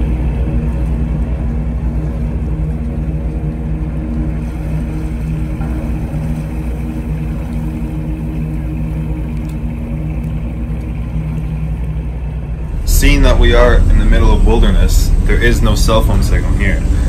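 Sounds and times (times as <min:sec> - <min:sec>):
ship engine humming: 0:00.0 - 0:17.0.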